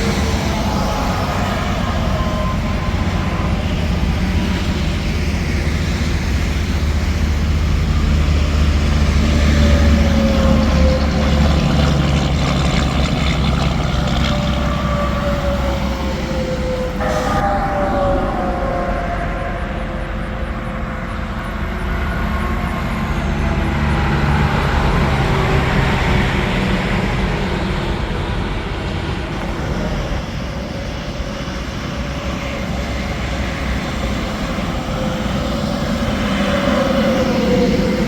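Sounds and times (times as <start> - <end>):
highway traffic passing: 0.0 - 38.0.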